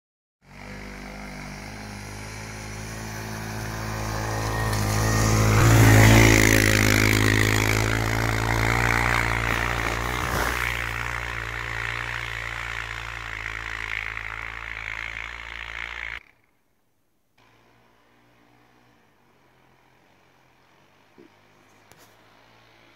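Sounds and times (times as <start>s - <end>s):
quad engine driving past: 0.4s - 16.5s, 17.4s - 22.9s.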